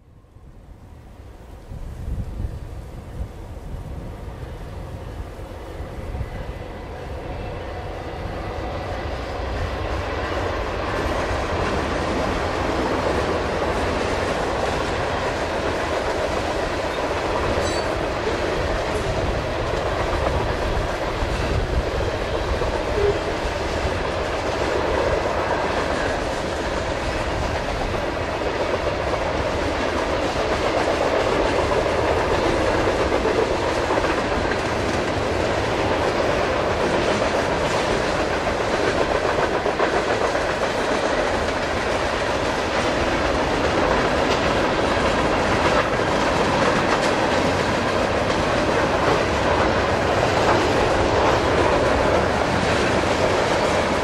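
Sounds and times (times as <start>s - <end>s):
freight train rumble: 0.0s - 54.0s
freight cars clickety-clack: 10.2s - 54.0s.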